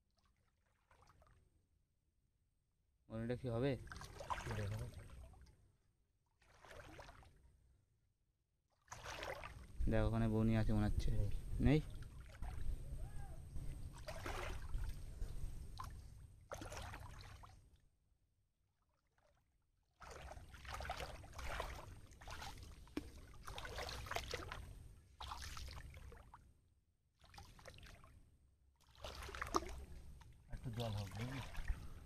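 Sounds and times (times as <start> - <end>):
shallow water sloshing and splashing: 0.0 - 1.6, 3.7 - 5.8, 6.4 - 7.8, 8.7 - 10.0, 11.4 - 18.0, 18.8 - 32.0.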